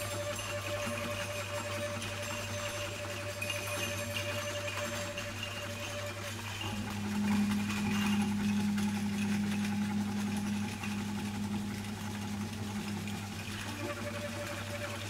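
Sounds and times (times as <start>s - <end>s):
rustling percussion: 0.0s - 15.0s.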